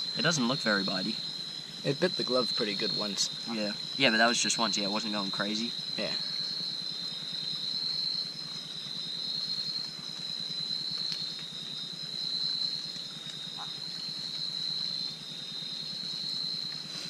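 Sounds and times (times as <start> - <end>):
insects trilling: 0.0 - 17.0
low rapid insect pulsing: 0.0 - 17.0.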